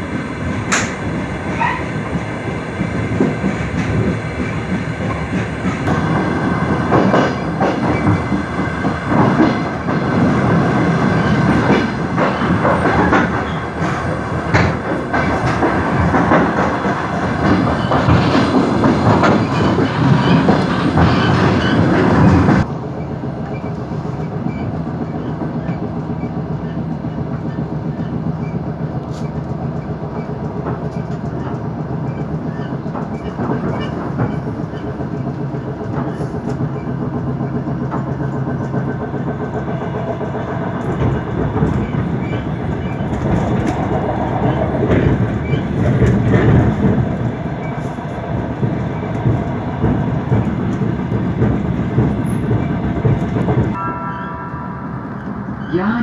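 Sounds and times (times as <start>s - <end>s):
train engine drone: 0.0s - 56.0s
wheels clicking over rail joints: 0.7s - 22.7s, 23.4s - 53.8s.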